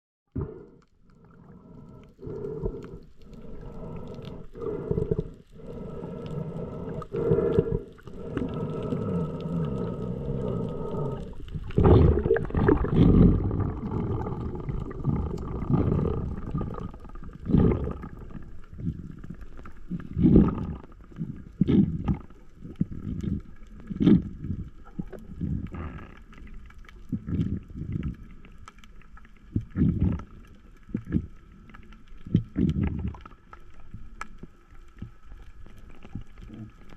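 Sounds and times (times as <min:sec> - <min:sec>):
underwater drone: 0:00.3 - 0:36.9
faint steady hum: 0:00.4 - 0:36.9.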